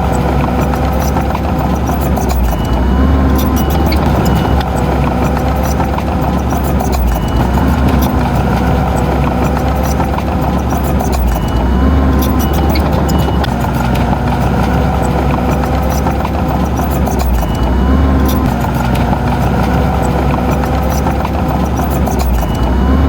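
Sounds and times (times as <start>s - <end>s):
heavy machinery diesel engine: 0.0s - 23.0s
metallic clicks and clanks: 0.0s - 23.0s.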